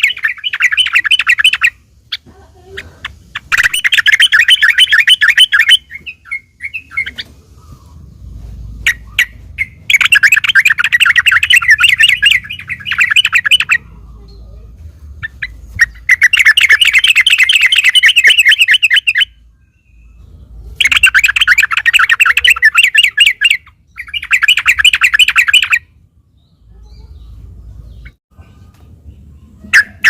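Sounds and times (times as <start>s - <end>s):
bulbul chattering song: 0.0s - 28.2s, 29.0s - 30.0s.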